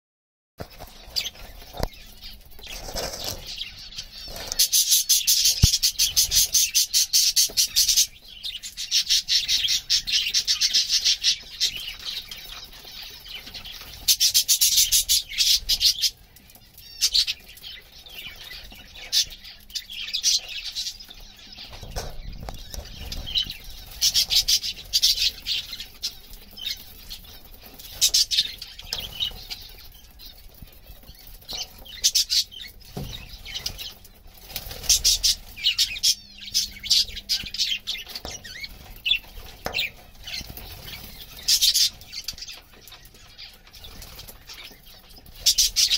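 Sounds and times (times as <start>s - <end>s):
birds chattering in shrill chirps: 0.6s - 45.9s.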